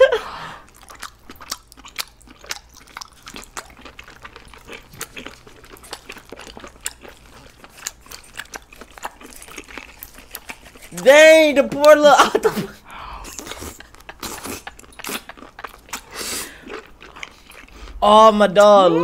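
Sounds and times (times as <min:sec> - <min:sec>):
mouth chewing: 0:00.6 - 0:11.1, 0:13.2 - 0:18.0.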